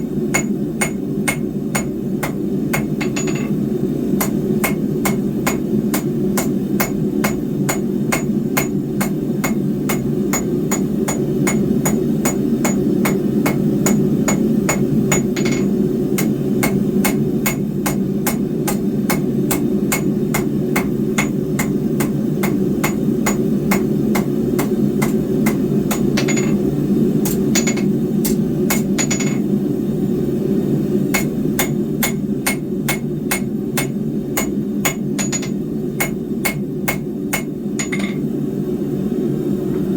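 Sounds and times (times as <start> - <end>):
hammer striking steel on anvil: 0.3 - 3.6, 4.2 - 26.6, 27.2 - 29.4, 31.1 - 38.3.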